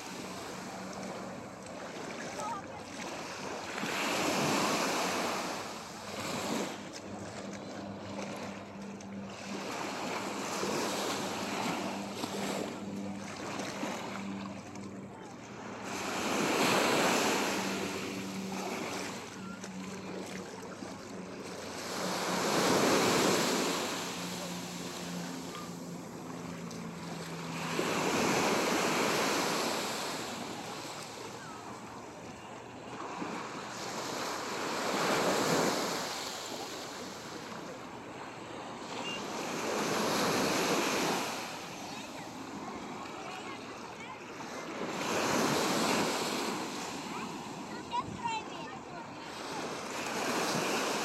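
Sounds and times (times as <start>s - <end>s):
small waves washing onto beach: 0.0s - 51.0s.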